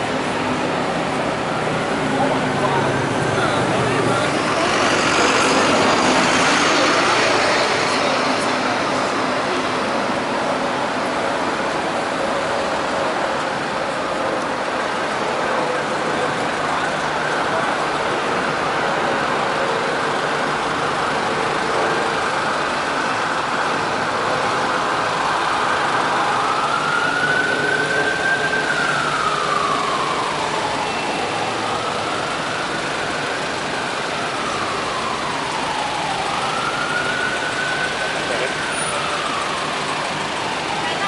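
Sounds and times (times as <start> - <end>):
emergency siren wailing: 0.0 - 41.0
road traffic: 0.0 - 41.0.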